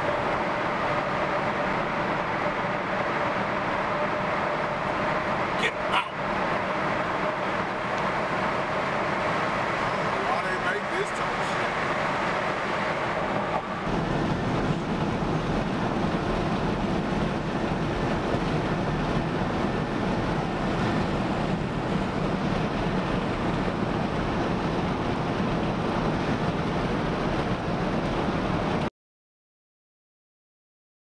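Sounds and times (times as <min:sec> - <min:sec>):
highway road and wind noise: 0:00.0 - 0:28.9.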